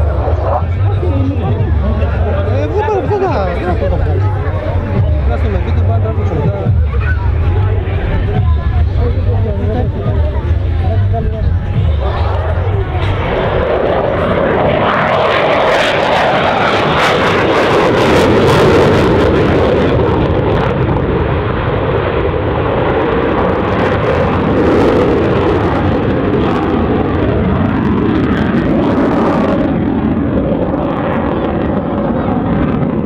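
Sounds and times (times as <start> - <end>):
fighter jet engine roar: 0.0 - 33.0
jet crackling: 0.0 - 33.0.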